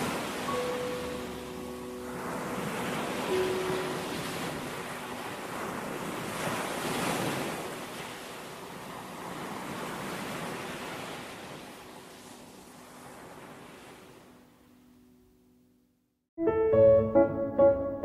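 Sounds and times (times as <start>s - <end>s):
ocean waves washing in: 0.0s - 14.7s.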